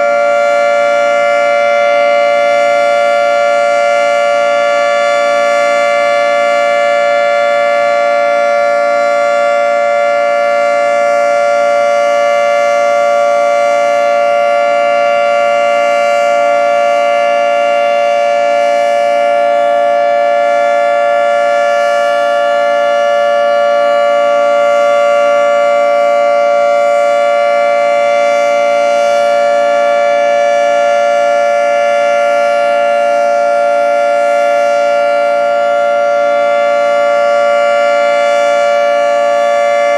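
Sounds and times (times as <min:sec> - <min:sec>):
dual-tone siren: 0:00.0 - 0:39.9.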